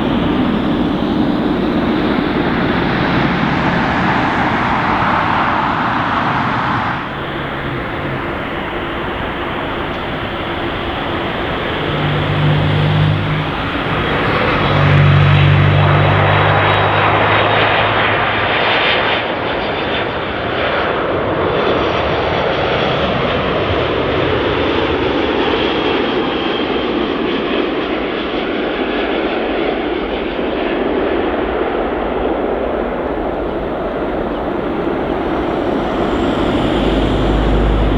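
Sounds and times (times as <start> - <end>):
jet engines roaring: 0.0 - 23.7, 29.3 - 37.9.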